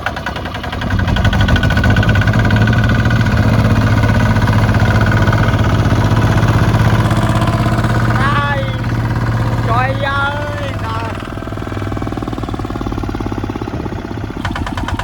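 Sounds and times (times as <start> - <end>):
diesel engine running loud: 0.0 - 15.0.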